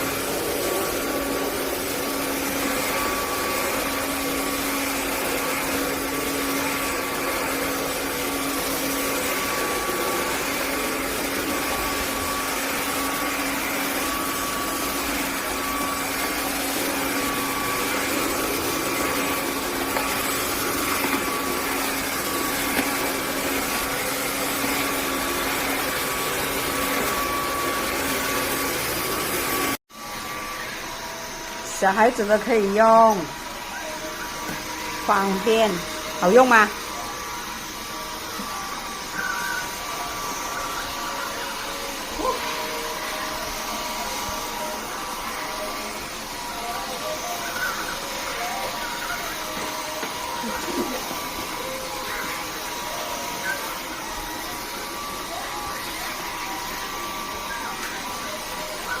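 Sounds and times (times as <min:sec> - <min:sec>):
vacuum mop motor whirring: 0:00.0 - 0:59.0.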